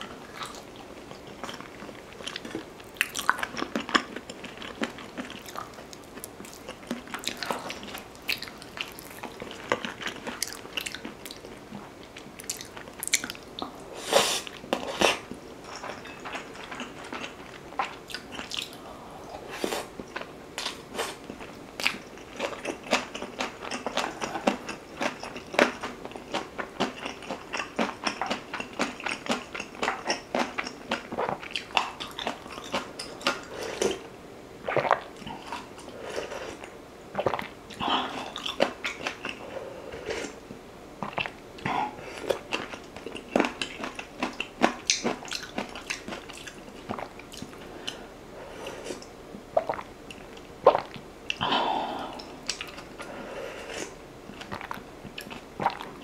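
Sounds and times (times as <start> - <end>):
chewing with crunches: 0.0 - 13.8, 14.4 - 18.8, 19.6 - 34.0, 34.7 - 40.4, 41.0 - 51.4, 53.7 - 56.0.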